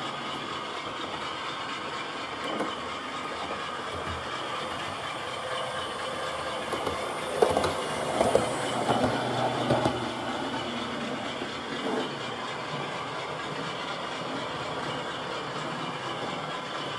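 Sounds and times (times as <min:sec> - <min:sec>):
model train rolling on track: 0:00.0 - 0:16.9
wheels clicking over rail joints: 0:00.1 - 0:16.9.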